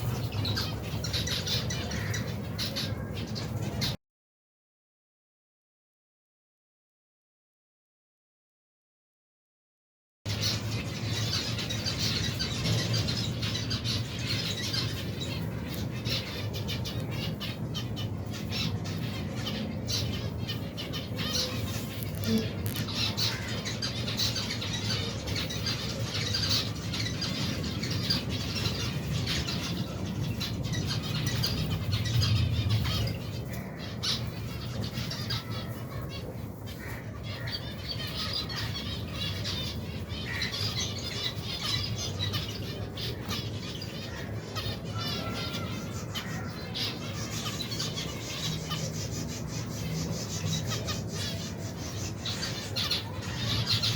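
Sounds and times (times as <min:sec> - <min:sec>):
finches chirping: 0:10.3 - 0:53.9.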